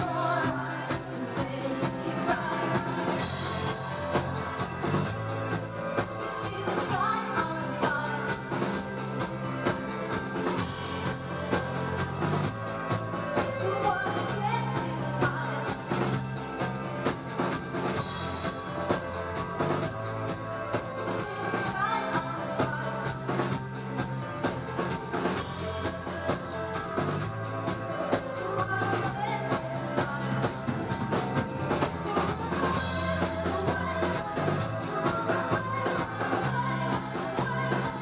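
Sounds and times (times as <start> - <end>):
drum kit beat: 0.0 - 38.0
live band music: 0.0 - 38.0.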